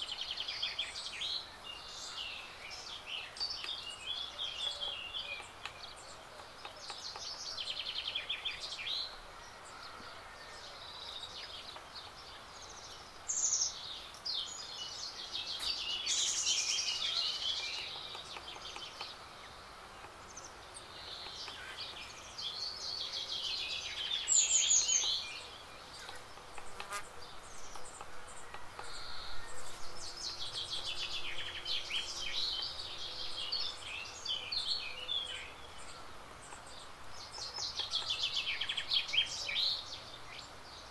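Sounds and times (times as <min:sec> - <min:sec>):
faint outdoor hiss: 0:00.0 - 0:40.9
songbirds warbling: 0:00.0 - 0:40.9.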